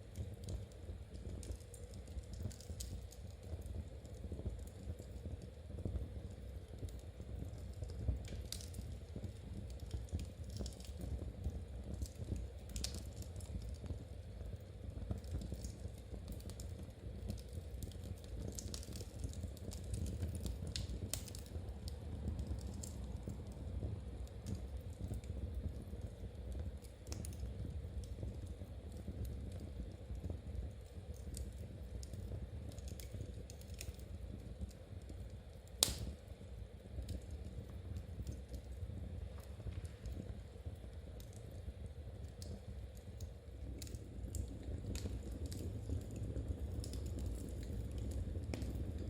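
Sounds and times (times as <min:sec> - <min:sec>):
fire crackling: 0:00.0 - 0:49.0
fireplace fire rumbling: 0:00.0 - 0:49.0.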